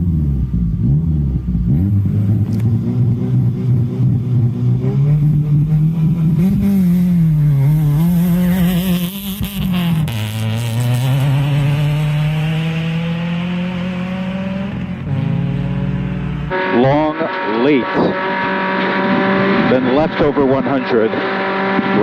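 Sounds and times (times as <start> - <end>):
engine crackle: 0.0 - 22.0
rally car engine revving: 0.0 - 22.0.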